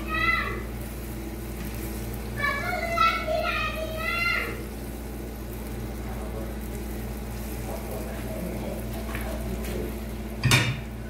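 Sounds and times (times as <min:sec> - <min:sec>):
dough sizzling in hot oil: 0:00.0 - 0:11.0.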